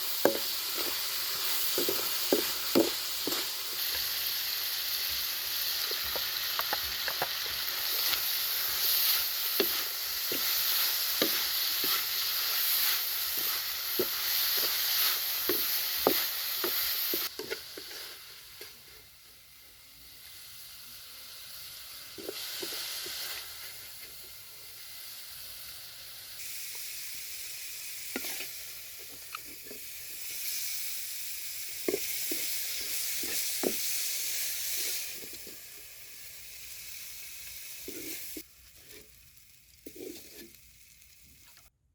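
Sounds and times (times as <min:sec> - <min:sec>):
food sizzling in a pan: 0:00.0 - 0:41.8.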